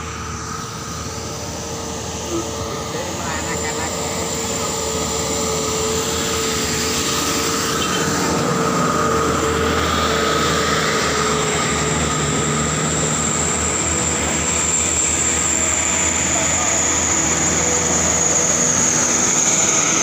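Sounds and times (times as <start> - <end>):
truck engine labouring uphill: 0.0 - 20.0.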